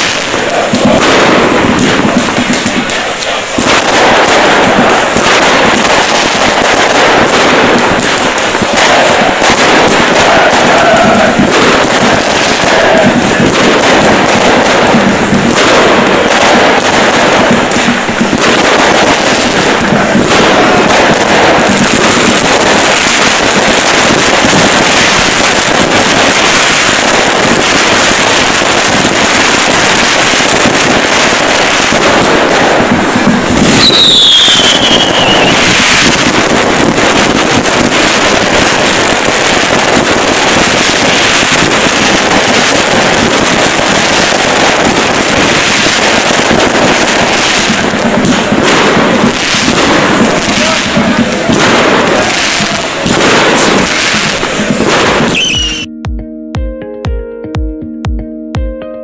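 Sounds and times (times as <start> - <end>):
pyrotechnics crackling and popping: 0.0 - 56.0.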